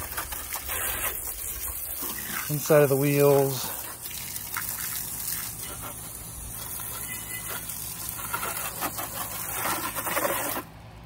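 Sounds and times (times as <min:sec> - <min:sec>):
water splashing on paving stones: 0:00.0 - 0:10.6
hose spraying water: 0:00.0 - 0:10.7.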